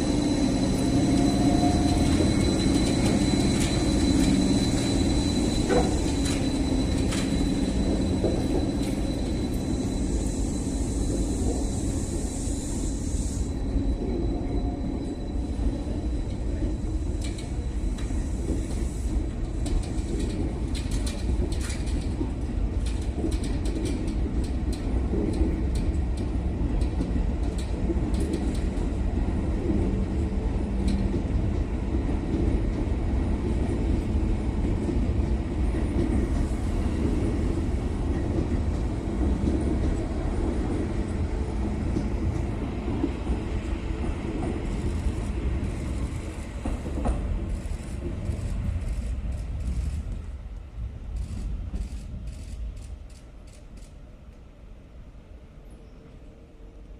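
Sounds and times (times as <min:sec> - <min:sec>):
train rumbling past: 0:00.0 - 0:56.9.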